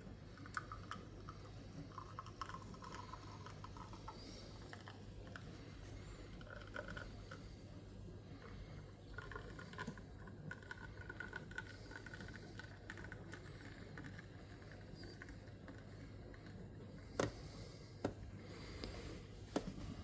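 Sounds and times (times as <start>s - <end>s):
espresso trickling into cup: 0.0s - 7.7s, 8.4s - 17.7s
low steady hum: 0.0s - 20.0s.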